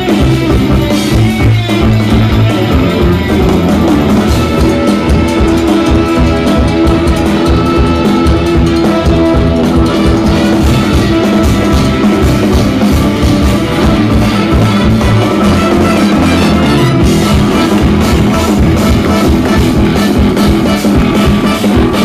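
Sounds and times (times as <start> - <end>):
bass: 0.0 - 22.0
drum kit: 0.0 - 22.0
electric guitar: 0.0 - 22.0
keyboards: 0.0 - 22.0
saxophone: 0.0 - 22.0
trumpets: 2.0 - 22.0.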